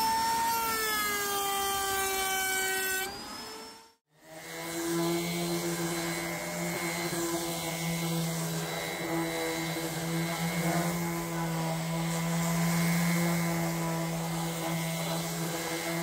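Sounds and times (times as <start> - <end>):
orbital sander on wood: 0.0 - 16.0.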